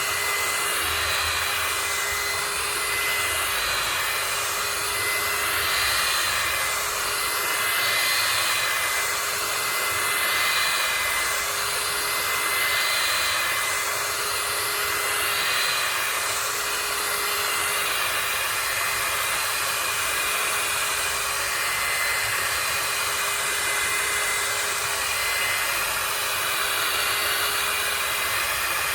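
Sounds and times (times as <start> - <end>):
small fan motor whirring: 0.0 - 28.9.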